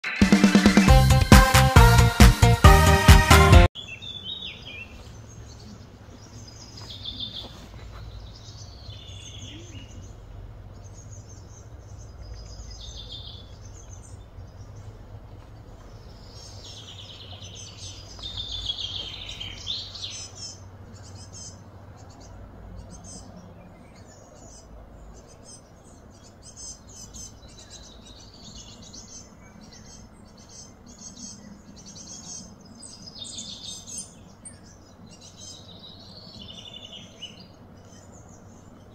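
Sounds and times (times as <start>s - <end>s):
birds chirping: 0.0s - 38.9s
low outdoor hum: 3.8s - 38.9s.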